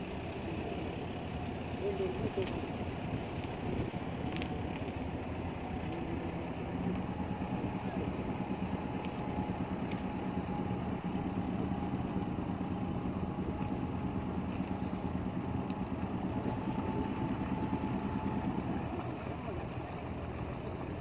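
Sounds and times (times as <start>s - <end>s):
ferry engine throbbing: 0.0s - 21.0s.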